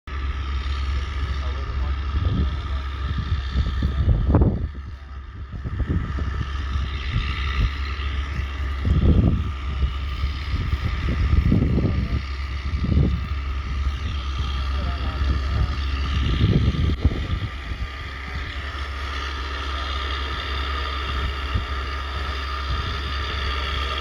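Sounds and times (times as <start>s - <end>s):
tractor diesel engine running: 0.1s - 24.0s
wind buffeting microphone: 0.1s - 24.0s.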